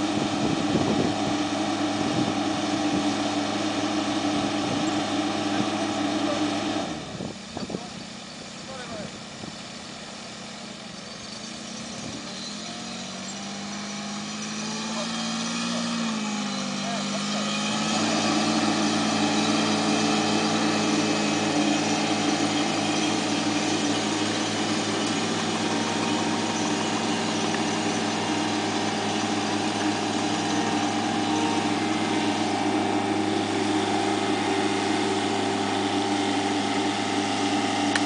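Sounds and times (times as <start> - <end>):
vehicle engine humming steadily: 0.0 - 38.0.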